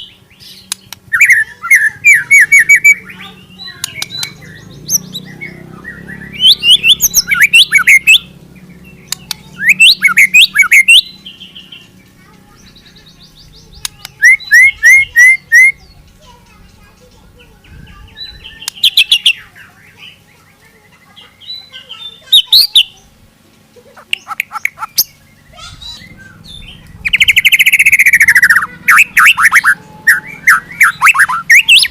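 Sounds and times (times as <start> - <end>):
songbird whistling rapid phrases: 0.0 - 11.9, 12.6 - 16.0, 17.8 - 23.0, 24.0 - 31.9.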